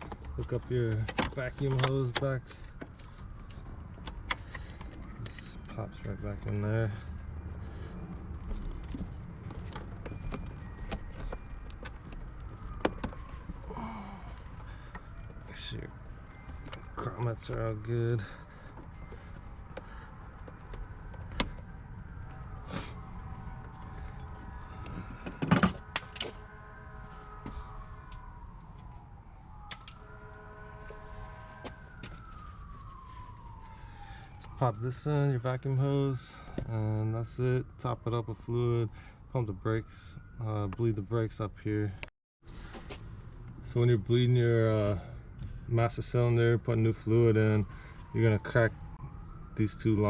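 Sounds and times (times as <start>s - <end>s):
distant siren wailing: 0.0s - 50.0s.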